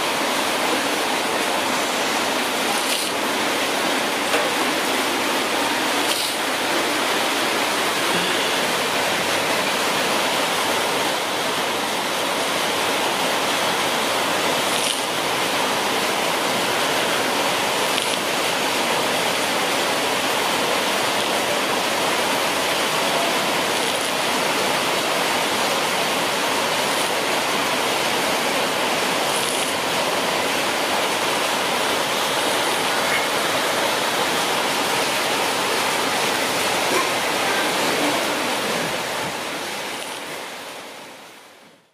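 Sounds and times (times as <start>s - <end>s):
steady rushing hiss: 0.0s - 41.9s.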